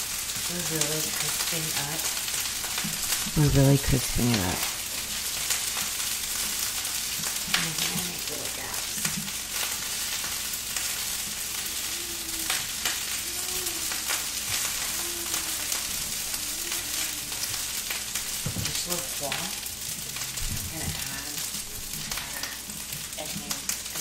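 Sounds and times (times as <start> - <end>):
rice sizzling in a skillet: 0.0 - 24.0.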